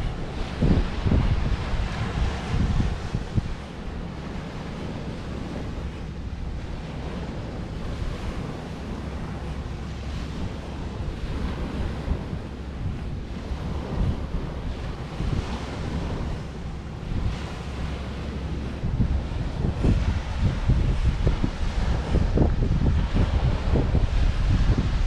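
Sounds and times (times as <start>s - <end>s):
ocean surf on beach: 0.0s - 25.0s
wind buffeting microphone: 0.0s - 25.0s.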